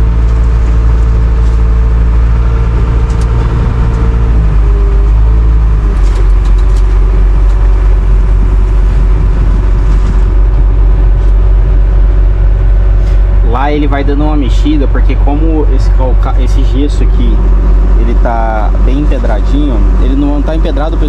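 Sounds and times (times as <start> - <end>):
farm machinery diesel engine: 0.0 - 21.0.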